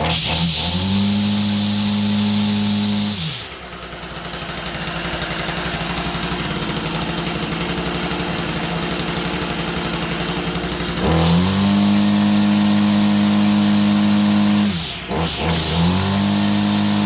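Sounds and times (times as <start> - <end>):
string trimmer engine revving and idling: 0.0 - 17.0.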